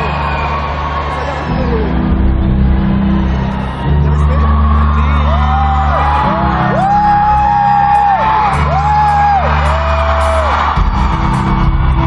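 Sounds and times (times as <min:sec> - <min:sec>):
heavy bass: 0:00.0 - 0:12.0.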